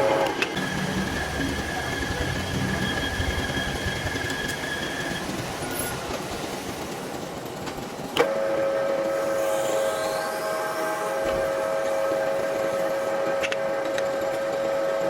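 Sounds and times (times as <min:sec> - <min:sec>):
thin machine whine: 0:00.0 - 0:06.1, 0:08.2 - 0:15.0.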